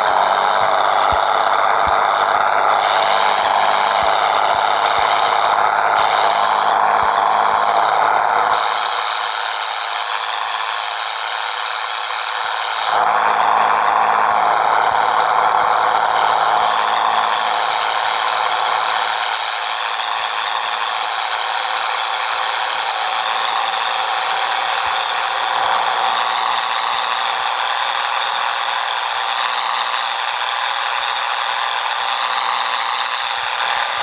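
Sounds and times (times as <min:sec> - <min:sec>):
high whine: 0:00.0 - 0:34.0
truck diesel engine running: 0:00.0 - 0:34.0.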